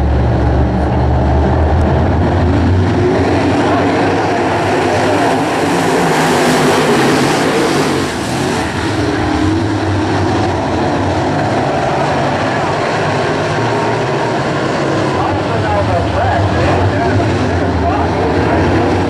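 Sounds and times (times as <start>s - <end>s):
race car engines racing by: 0.0s - 19.0s.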